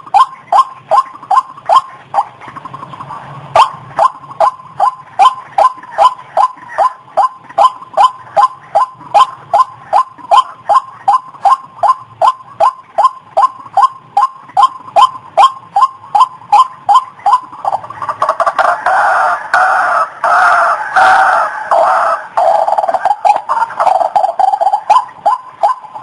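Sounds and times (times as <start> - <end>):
waterhen calling: 0.0 - 26.0.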